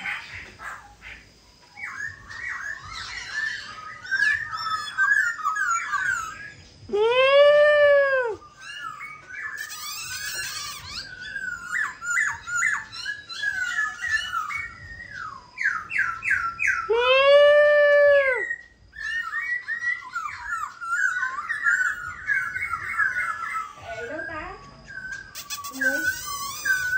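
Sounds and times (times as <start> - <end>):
bird chattering and warbling: 0.0 - 6.9, 8.3 - 17.0, 18.4 - 26.9
loud rising and falling bird call: 1.8 - 23.9, 24.9 - 26.9.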